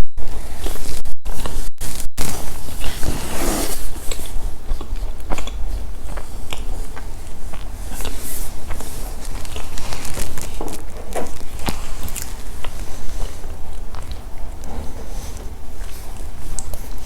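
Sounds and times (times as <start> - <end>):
steady low hum: 0.0 - 17.0
chewing crunchy snacks: 2.6 - 17.0.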